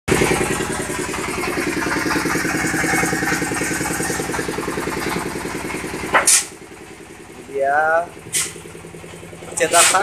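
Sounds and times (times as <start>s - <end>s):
small engine running: 0.1s - 10.0s.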